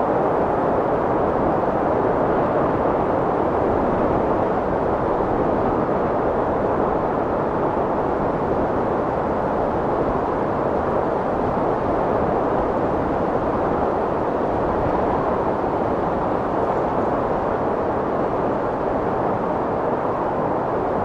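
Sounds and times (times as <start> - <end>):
strong wind blowing: 0.0 - 21.0.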